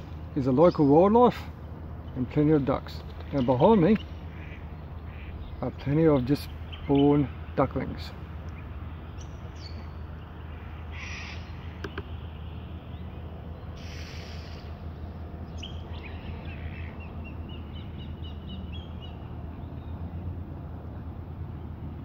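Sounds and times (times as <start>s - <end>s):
birds calling: 0.0s - 21.7s.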